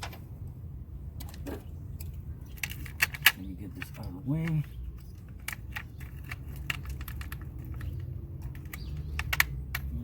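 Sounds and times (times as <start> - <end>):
tools and parts clinking: 1.2 - 10.0.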